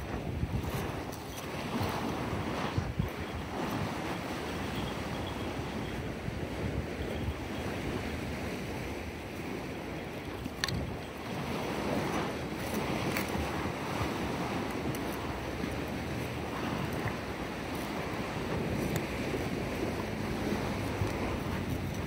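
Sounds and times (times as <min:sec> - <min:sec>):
sea water washing against wall: 0:00.0 - 0:22.0
wind buffeting microphone: 0:00.0 - 0:22.0.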